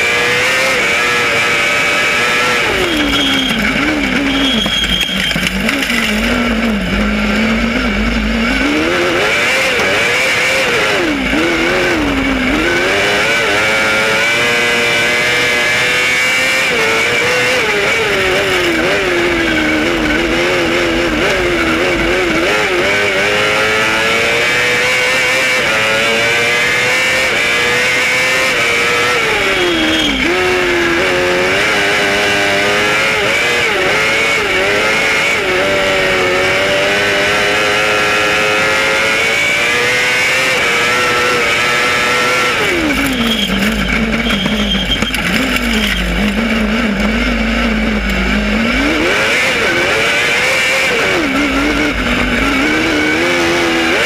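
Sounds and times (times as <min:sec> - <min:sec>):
kart engine racing: 0:00.0 - 0:54.0.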